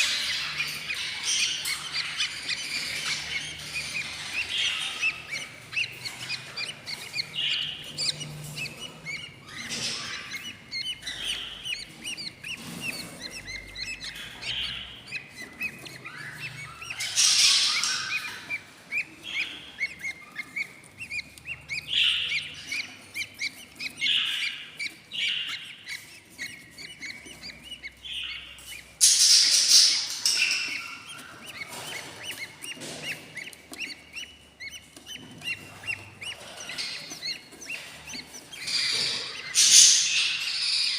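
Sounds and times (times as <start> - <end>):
budgerigar chicks cheeping: 0.0 - 40.9.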